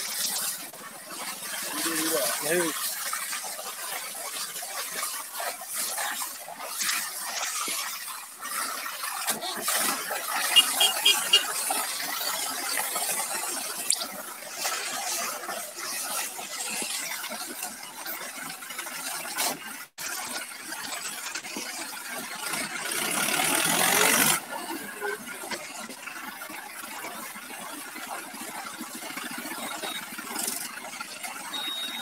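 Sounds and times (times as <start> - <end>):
water jetting from hose: 0.0 - 32.0.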